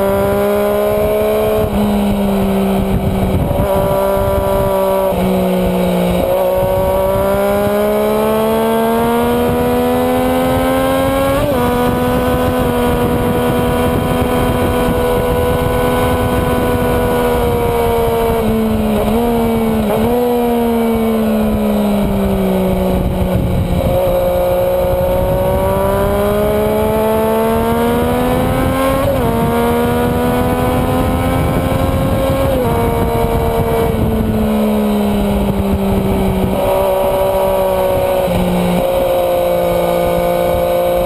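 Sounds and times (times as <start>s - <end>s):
motorcycle engine at speed: 0.0s - 41.0s
wind and road noise: 0.0s - 41.0s.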